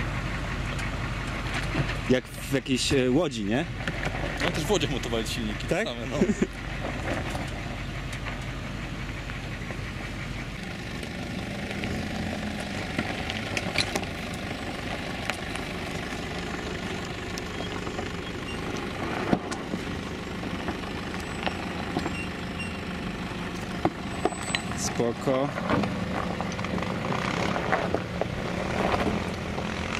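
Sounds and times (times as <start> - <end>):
diesel engine running: 0.0 - 29.9
tyres crunching on loose stones: 1.3 - 29.9.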